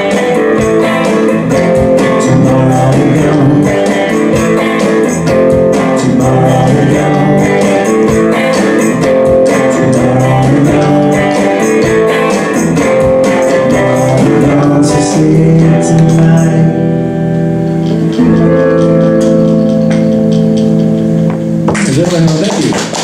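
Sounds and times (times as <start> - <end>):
electric guitar strumming: 0.0 - 23.0.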